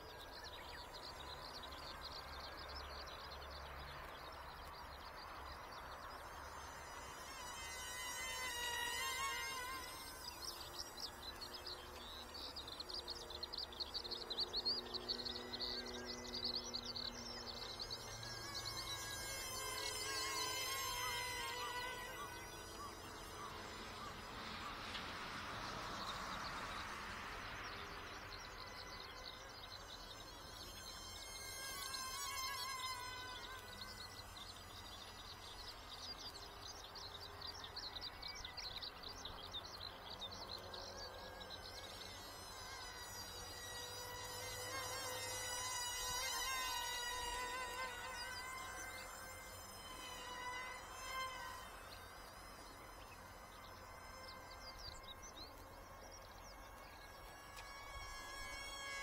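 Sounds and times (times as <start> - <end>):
model plane motors buzzing: 0.0 - 59.0.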